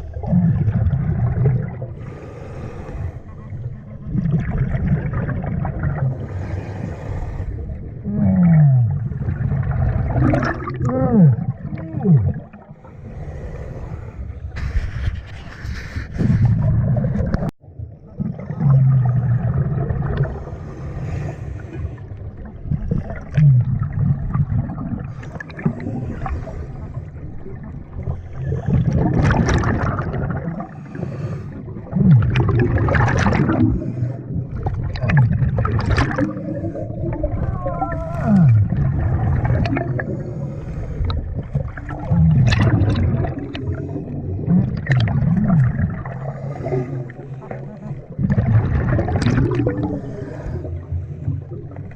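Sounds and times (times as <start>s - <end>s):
exhaled bubbles gurgling: 0.0s - 51.9s.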